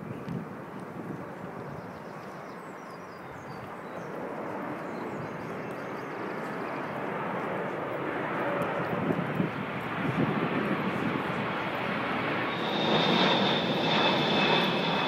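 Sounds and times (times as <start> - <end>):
jet airliner flying overhead: 0.0 - 15.0.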